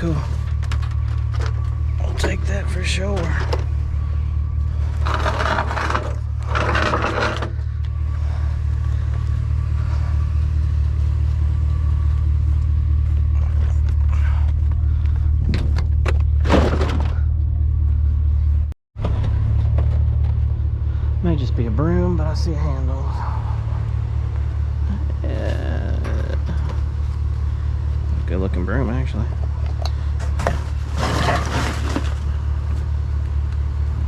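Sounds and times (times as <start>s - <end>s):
vehicle engine rumble: 0.0s - 34.0s.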